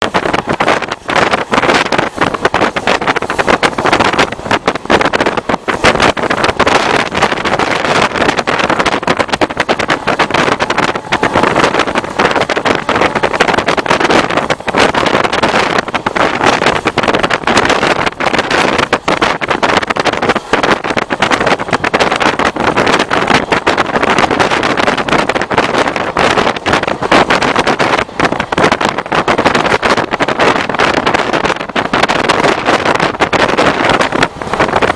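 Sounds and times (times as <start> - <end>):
train clattering across bridge: 0.0 - 34.9
wind buffeting microphone: 0.0 - 34.9.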